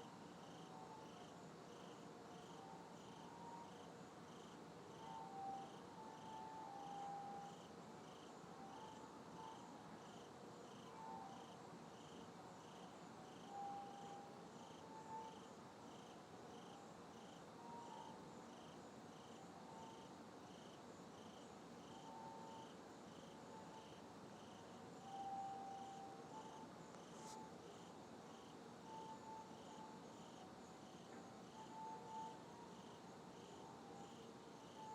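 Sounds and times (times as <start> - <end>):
faint steady tones: 0.0 - 34.9
cricket chirping: 0.1 - 34.9.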